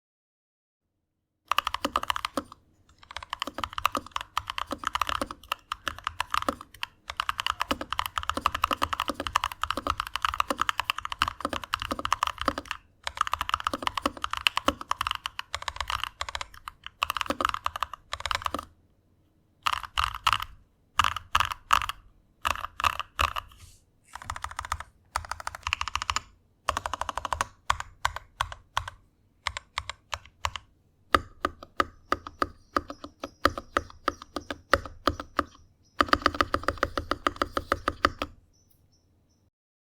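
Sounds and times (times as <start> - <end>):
mechanical keyboard typing: 1.5 - 18.8, 19.6 - 23.5, 24.1 - 38.4.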